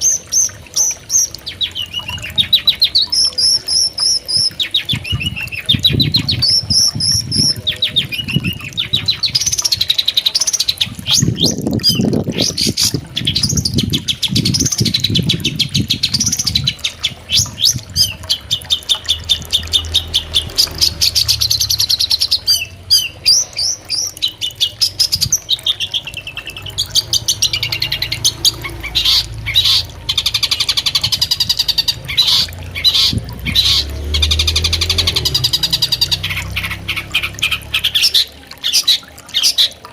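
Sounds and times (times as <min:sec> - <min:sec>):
bird chattering song: 0:00.0 - 0:39.8.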